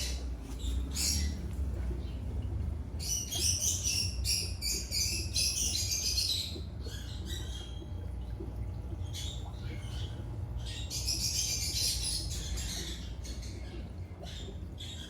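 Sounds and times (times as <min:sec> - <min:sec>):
small birds chirping: 0:00.0 - 0:02.4, 0:03.0 - 0:15.0
low steady hum: 0:00.0 - 0:15.0.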